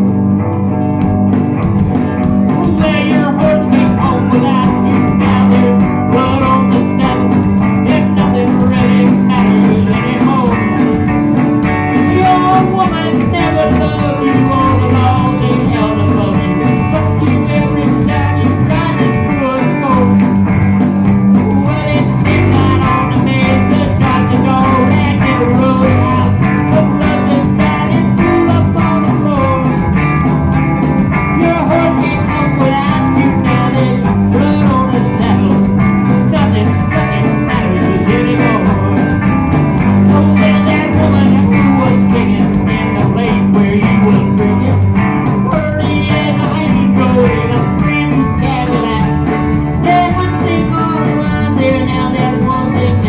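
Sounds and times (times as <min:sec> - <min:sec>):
drum kit: 0:00.0 - 0:53.0
electric guitars: 0:00.0 - 0:53.0.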